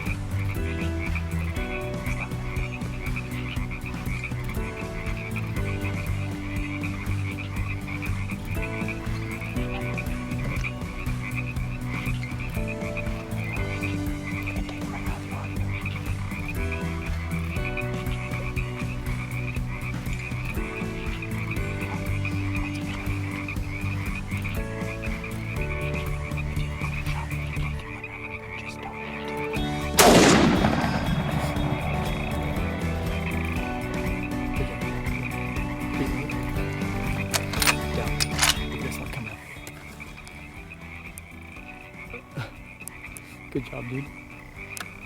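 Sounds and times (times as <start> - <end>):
frogs trilling: 0.0 - 45.0
low sustained notes: 0.0 - 45.0.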